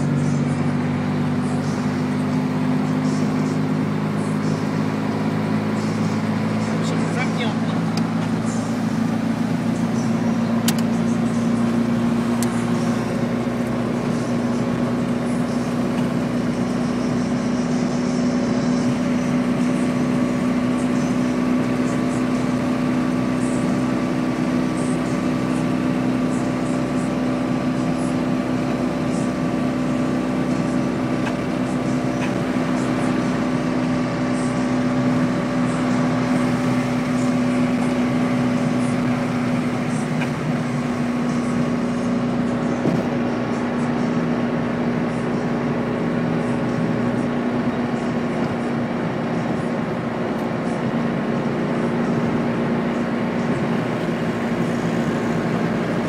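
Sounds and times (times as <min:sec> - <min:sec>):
car engine humming: 0:00.0 - 0:56.0
road noise: 0:00.0 - 0:56.0.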